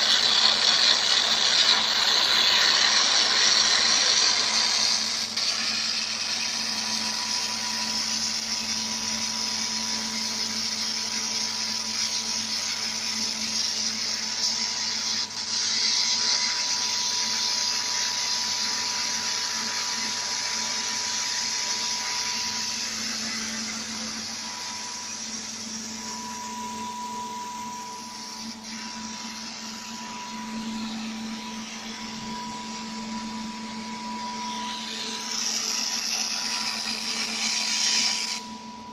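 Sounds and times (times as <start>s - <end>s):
laser welding machine whirring: 0.0s - 38.9s.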